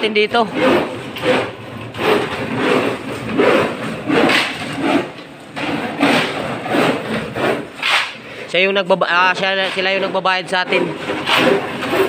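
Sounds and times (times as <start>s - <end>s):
shovel scraping sand and cement: 0.1s - 8.4s, 9.1s - 12.0s.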